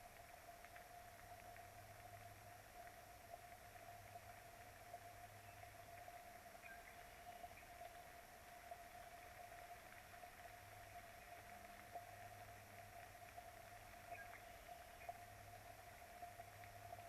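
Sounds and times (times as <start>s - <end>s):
faint steady hiss: 0.0s - 17.0s
light ticks: 0.0s - 17.0s
thin constant tone: 0.0s - 17.0s.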